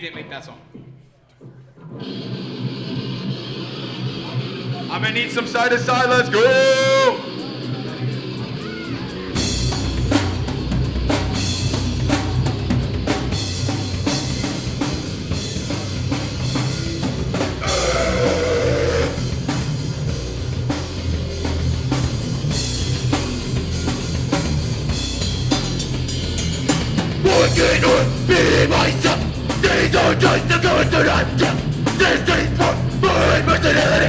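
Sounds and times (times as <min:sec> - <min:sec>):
live band playing: 0:06.1 - 0:34.0.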